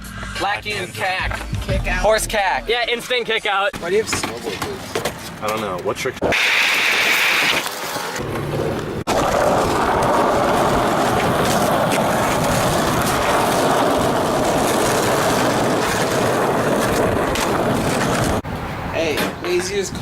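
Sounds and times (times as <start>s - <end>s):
skateboard wheels rolling on pavement: 3.8s - 20.0s.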